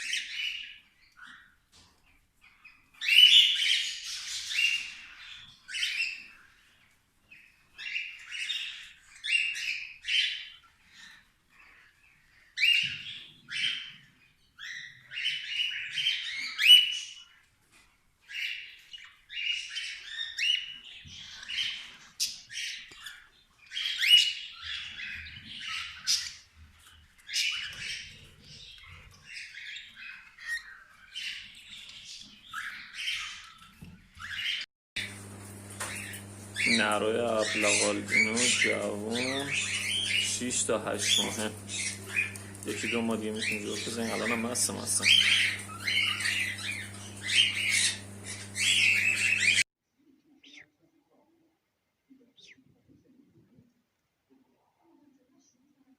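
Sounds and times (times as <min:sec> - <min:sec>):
cockatiels chirping and squawking: 0:00.0 - 0:49.7, 0:50.3 - 0:50.7.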